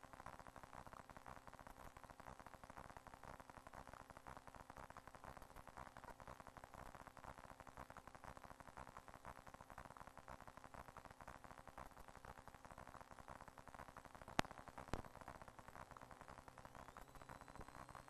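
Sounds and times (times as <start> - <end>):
faint crackling hiss: 0.0 - 18.0.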